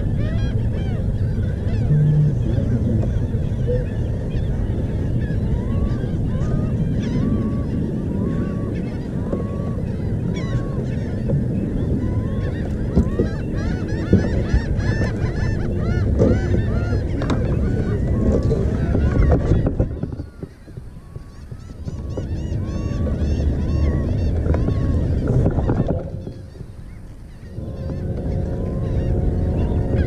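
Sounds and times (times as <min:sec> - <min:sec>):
birds honking calls: 0:00.0 - 0:30.0
steady low rumble: 0:00.0 - 0:30.0.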